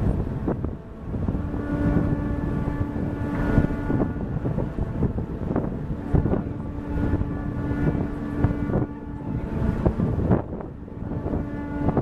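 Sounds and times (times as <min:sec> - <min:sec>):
ship machinery hum: 0:00.0 - 0:12.0
wind buffeting microphone: 0:00.0 - 0:12.0.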